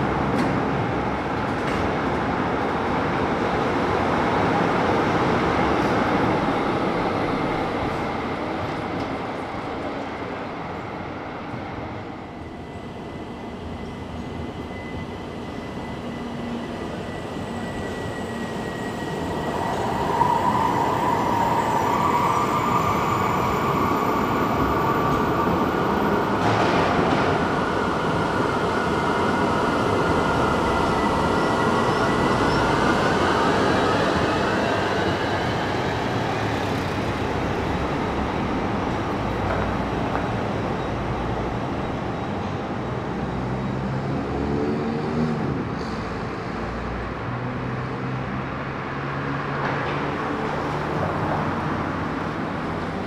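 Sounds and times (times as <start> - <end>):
tram wheels rumbling on rails: 0.0 - 47.1.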